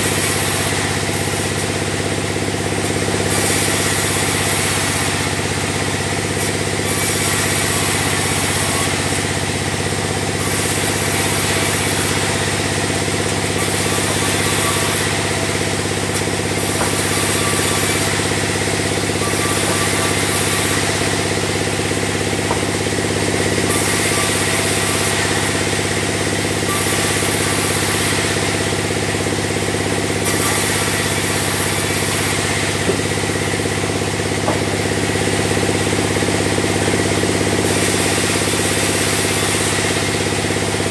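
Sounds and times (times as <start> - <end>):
bandsaw machine drone: 0.0 - 40.9.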